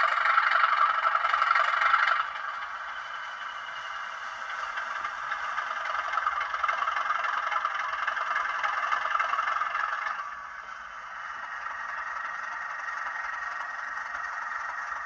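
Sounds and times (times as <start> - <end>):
rattle: 0.0 - 15.0
tinny diesel engine sound from speaker: 0.0 - 15.0.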